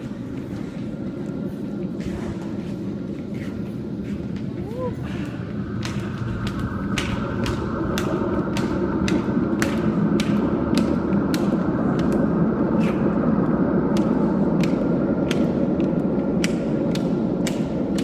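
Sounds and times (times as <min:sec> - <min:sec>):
escalator rumble with faint whine: 0:00.0 - 0:18.0.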